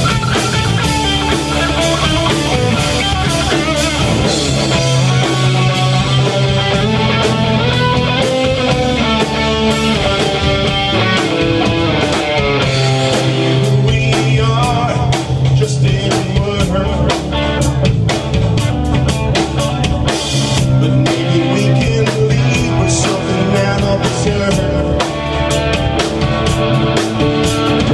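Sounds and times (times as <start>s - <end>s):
bass guitar: 0.0s - 27.9s
drum kit beat: 0.0s - 27.9s
electric guitar: 0.0s - 27.9s.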